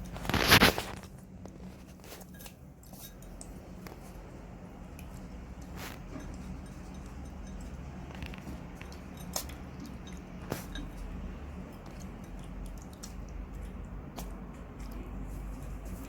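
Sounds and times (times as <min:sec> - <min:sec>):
raccoon eating squishing: 0:00.0 - 0:16.0
steady low hum: 0:00.0 - 0:16.0.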